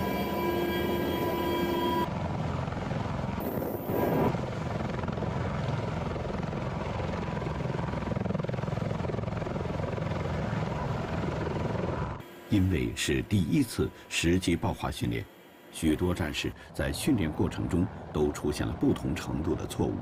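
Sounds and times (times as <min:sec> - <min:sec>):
helicopter rotor and turbine: 0:00.0 - 0:20.0
steady whining tones: 0:00.0 - 0:20.0.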